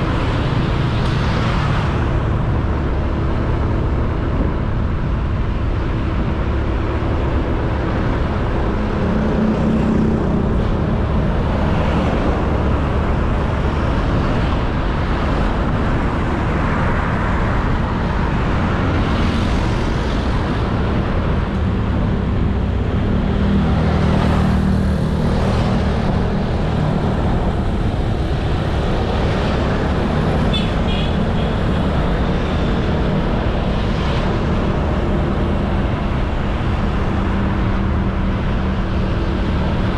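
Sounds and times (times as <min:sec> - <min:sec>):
road noise: 0:00.0 - 0:39.9
wind noise: 0:00.0 - 0:39.9.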